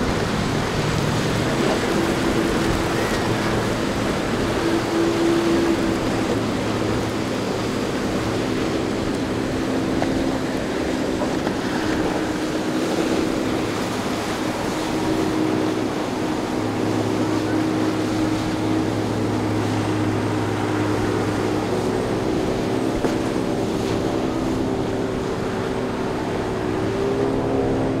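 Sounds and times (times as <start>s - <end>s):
motorboat engines running: 0.0s - 28.0s
water wash: 0.0s - 28.0s.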